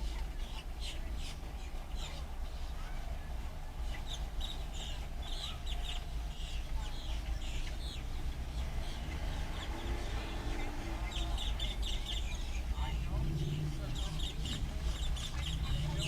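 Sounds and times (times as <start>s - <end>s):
birds chirping and clucking: 0.0s - 16.0s
steady low rumble: 0.0s - 16.0s.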